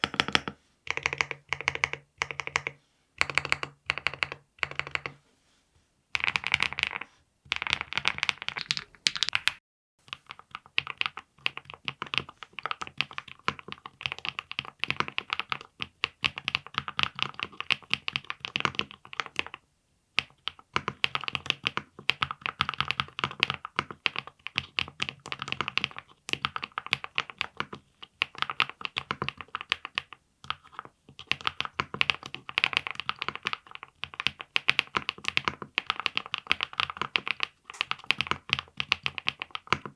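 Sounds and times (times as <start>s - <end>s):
mechanical keyboard typing: 0.0s - 5.2s, 6.2s - 19.6s, 20.2s - 39.9s.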